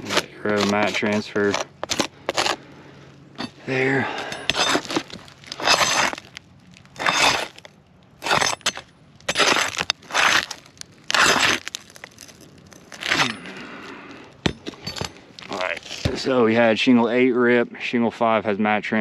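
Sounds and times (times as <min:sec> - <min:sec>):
roof shingles crackling and tearing: 0:00.0 - 0:16.3.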